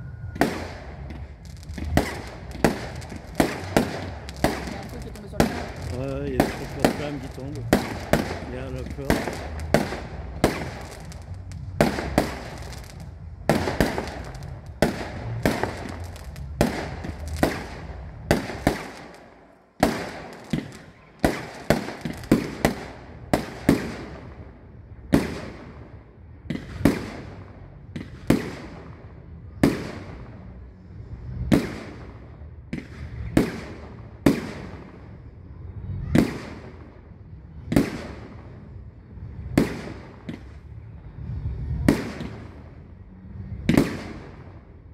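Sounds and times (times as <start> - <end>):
fireworks bursting with echo: 0.0 - 44.9.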